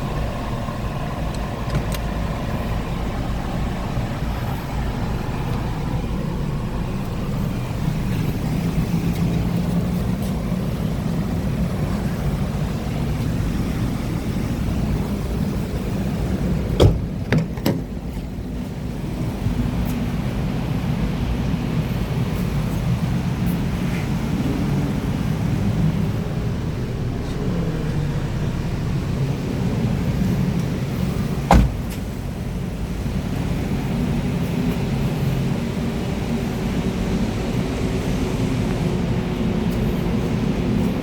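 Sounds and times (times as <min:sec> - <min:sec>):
car engine rumbling: 0:00.0 - 0:41.0.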